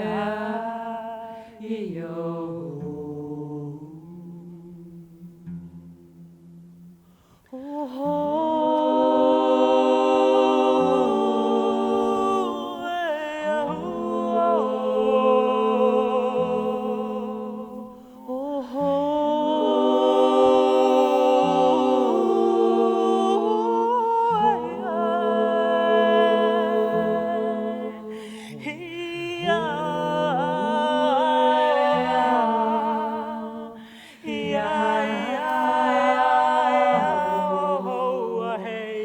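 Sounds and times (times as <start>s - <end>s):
vocal ensemble humming in harmony: 0.0s - 5.6s, 7.4s - 39.0s.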